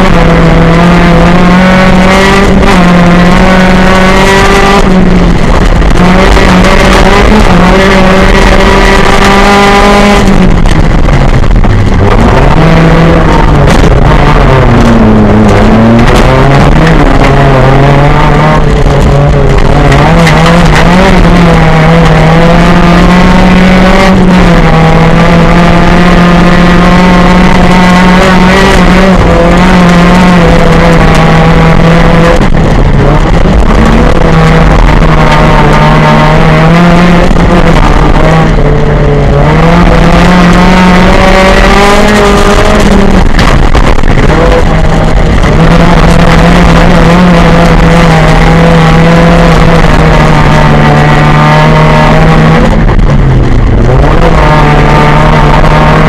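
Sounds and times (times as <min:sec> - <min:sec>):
car engine revving high: 0:00.0 - 0:56.0.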